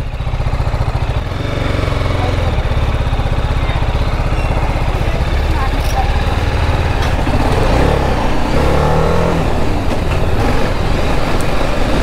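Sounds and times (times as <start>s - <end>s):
heavy steady rush of noise: 0.0s - 12.0s
motorcycle engine running: 0.0s - 12.0s.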